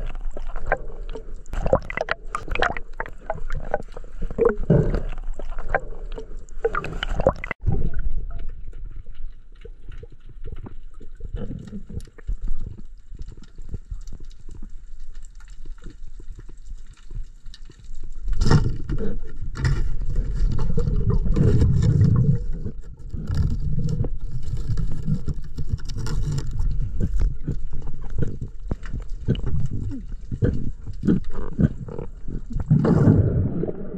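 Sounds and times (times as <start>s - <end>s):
muffled underwater water rush: 0.0s - 15.0s, 19.3s - 33.9s
underwater clicks and scrapes: 0.0s - 33.9s.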